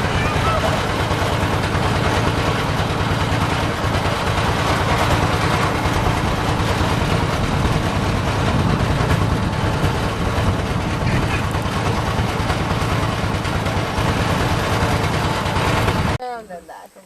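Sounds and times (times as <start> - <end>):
engine running steadily: 0.0 - 16.2.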